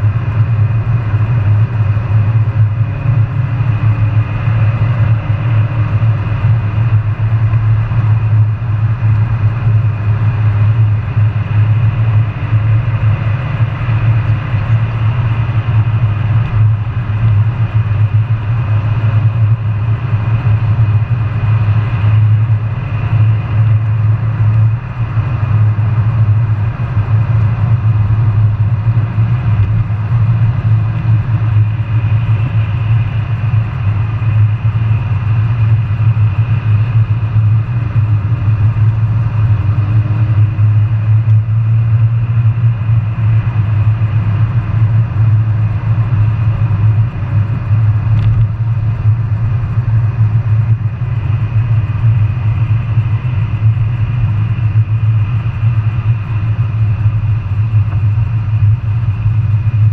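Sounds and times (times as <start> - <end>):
car engine and road drone: 0.0 - 59.9.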